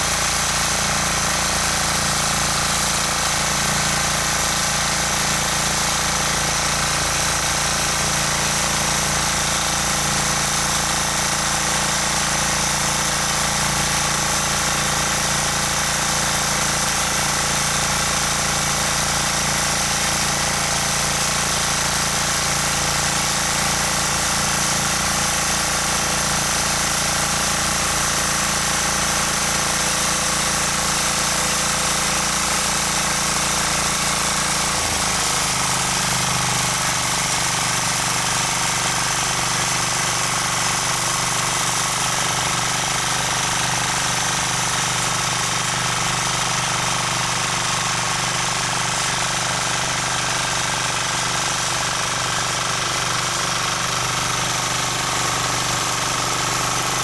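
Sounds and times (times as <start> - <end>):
tiller engine running under load: 0.0 - 57.0.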